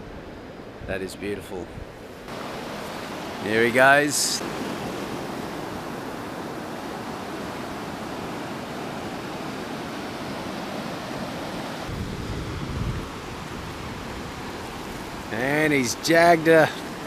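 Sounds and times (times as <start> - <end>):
surf breaking on beach: 2.3 - 17.0.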